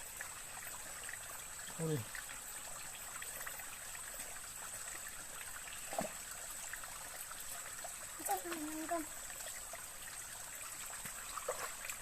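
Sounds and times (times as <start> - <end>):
steady rushing water: 0.0 - 12.0.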